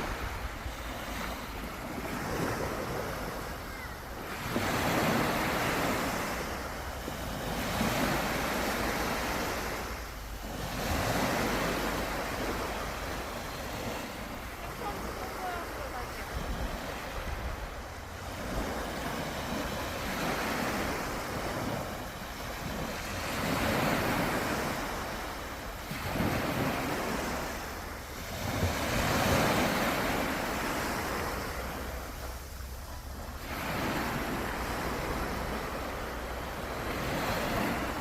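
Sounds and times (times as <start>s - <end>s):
surf breaking on shore: 0.0s - 38.0s.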